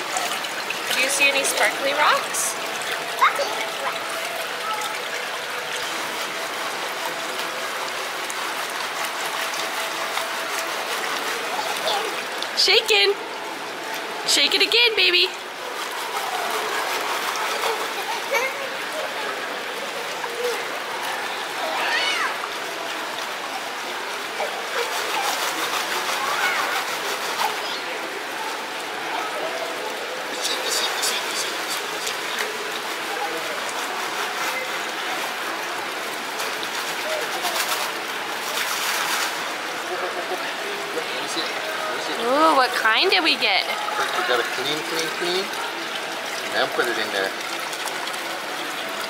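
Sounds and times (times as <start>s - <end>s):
faint voices: 0.0s - 49.0s
water running down a sluice: 0.0s - 49.0s.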